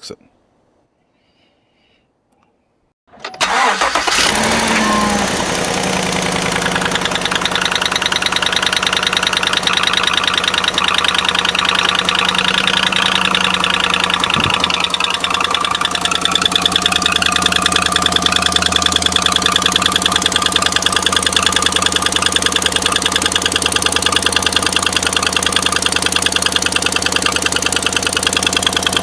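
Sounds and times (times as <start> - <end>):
engine fast idling with ticking: 3.5 - 29.0.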